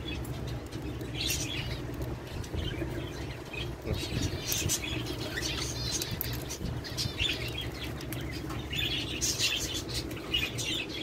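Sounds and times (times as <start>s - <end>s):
cockatiels chirping: 0.0s - 11.0s
steady low hum: 0.0s - 11.0s.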